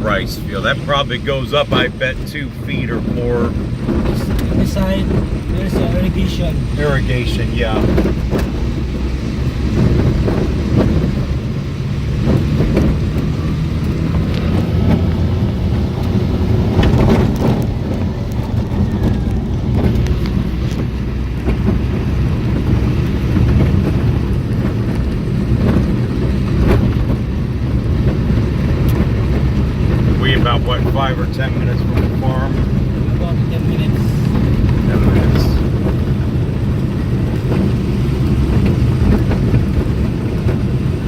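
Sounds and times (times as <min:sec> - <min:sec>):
car engine and tyre rumble: 0:00.0 - 0:41.0
knocks from road bumps: 0:02.7 - 0:41.0.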